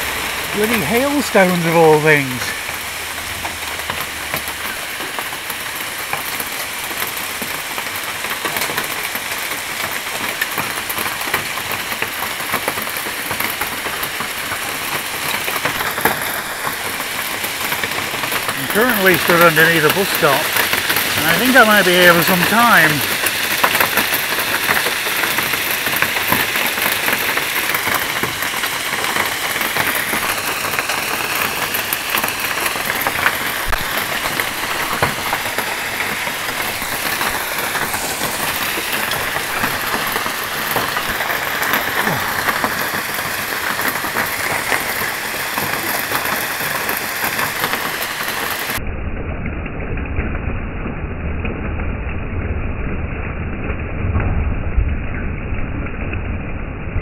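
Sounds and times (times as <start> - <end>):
hailstones clicking on roof: 0.0 - 48.8
rain hissing: 0.0 - 48.8.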